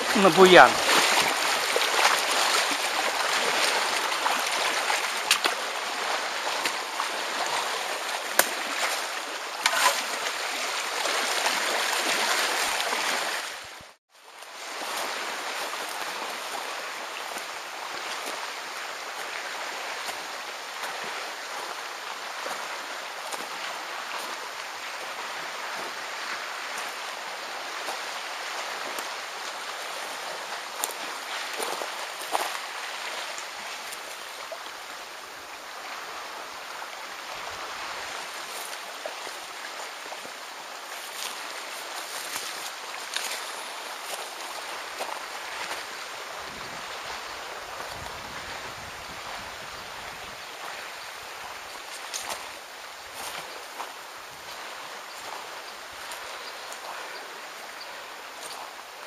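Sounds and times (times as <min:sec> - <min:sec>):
water lapping among rocks: 0:00.0 - 0:13.8, 0:25.0 - 0:58.9.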